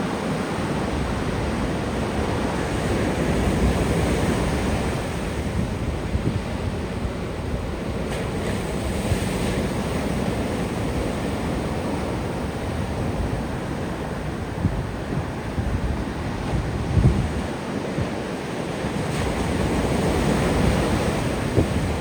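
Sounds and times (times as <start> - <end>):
ocean surf washing onto beach: 0.0 - 22.0
wind buffeting microphone: 0.1 - 22.0.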